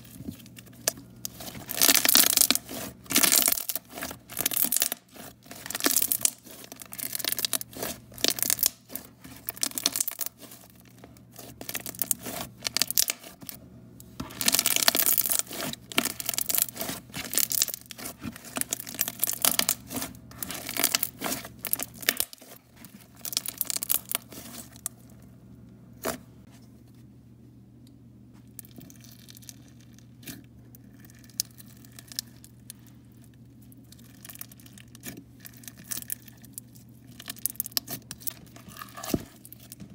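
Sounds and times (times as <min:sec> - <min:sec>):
slime crackling and squishing: 0:00.0 - 0:25.1, 0:28.4 - 0:39.9.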